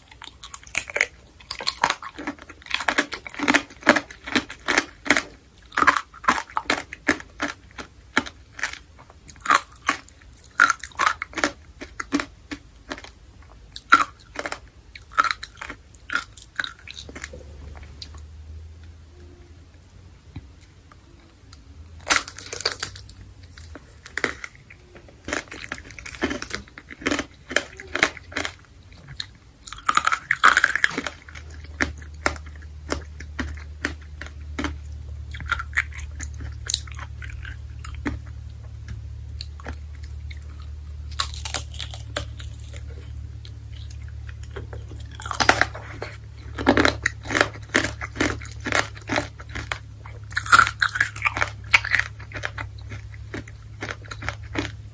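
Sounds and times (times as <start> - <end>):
crunchy candy chewing: 0.0 - 18.2, 20.6 - 54.9.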